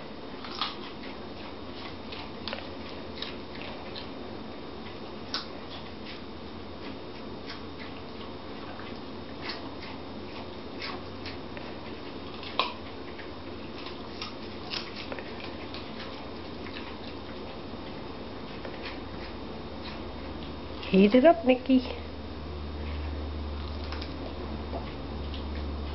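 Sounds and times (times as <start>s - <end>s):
dogs crunching carrot: 0.0s - 21.2s, 21.9s - 25.9s
faint steady hum: 0.0s - 25.9s.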